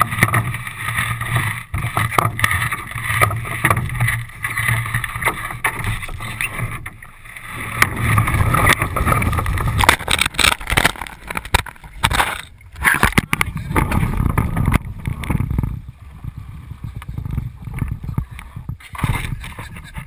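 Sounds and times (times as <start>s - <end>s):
low rumble: 0.0s - 19.8s
canoe knocking and scraping: 0.0s - 20.0s.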